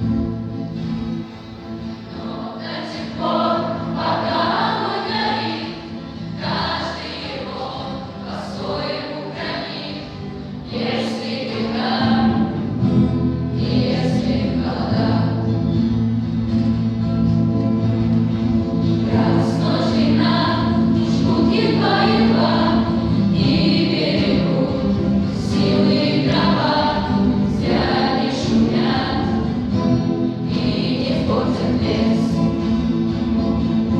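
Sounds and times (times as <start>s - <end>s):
ensemble singing in chorus: 1.8s - 16.0s, 18.2s - 33.9s.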